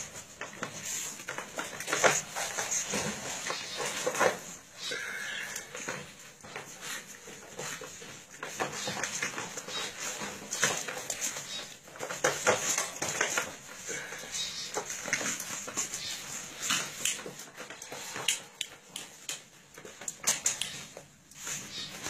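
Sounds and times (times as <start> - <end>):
puppies scuffling and scratching: 0.0 - 22.0.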